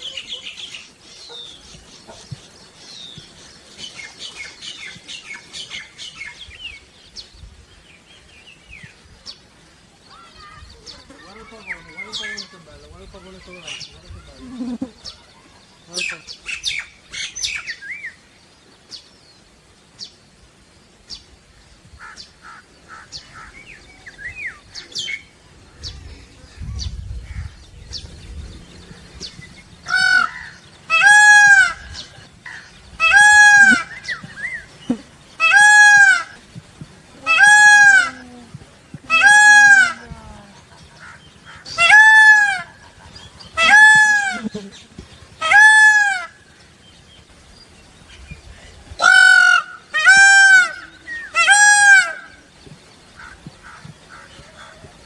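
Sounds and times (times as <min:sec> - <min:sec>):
peacock calling: 0:00.0 - 0:06.7, 0:08.9 - 0:18.0, 0:22.0 - 0:46.8, 0:48.9 - 0:55.0.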